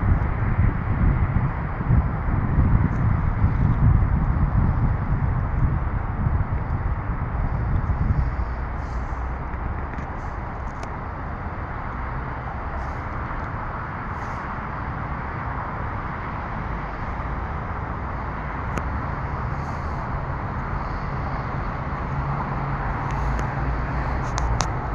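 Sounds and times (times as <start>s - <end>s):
engine low rumble: 0.0s - 24.9s.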